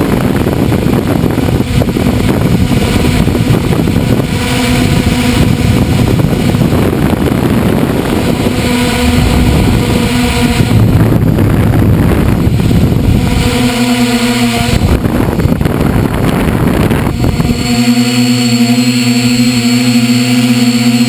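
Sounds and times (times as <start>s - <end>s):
drone motors humming: 0.0s - 21.0s
wind noise on microphone: 0.0s - 21.0s.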